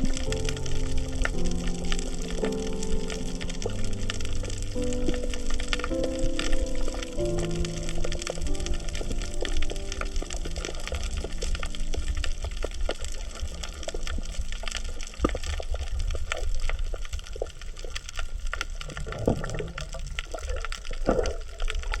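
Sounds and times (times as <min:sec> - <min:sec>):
low watery swells: 0:00.0 - 0:21.9
crackle of sharp clicks: 0:00.0 - 0:22.0
low rumble of water: 0:00.0 - 0:22.0.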